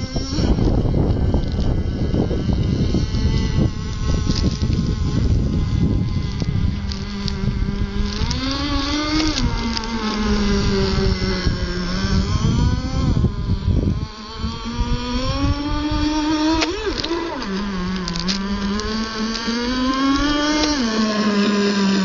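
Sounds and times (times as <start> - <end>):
model boat engine revving: 0.0 - 22.0.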